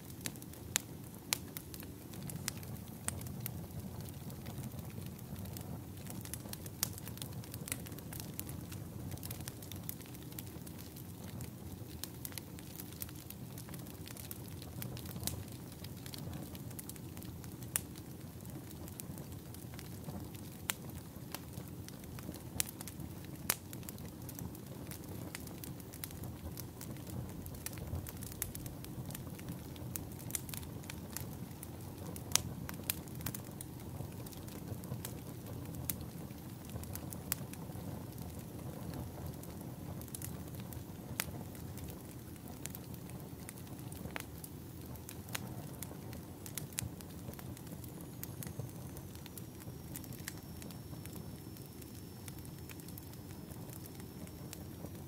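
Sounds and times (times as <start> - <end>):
campfire hissing: 0.0 - 55.0
firewood crackling and popping: 0.0 - 55.0.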